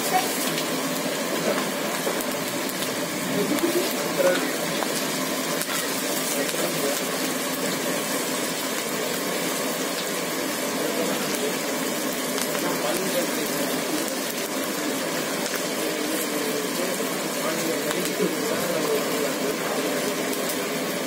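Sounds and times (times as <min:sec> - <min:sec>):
oil sizzling and bubbling: 0:00.0 - 0:21.0.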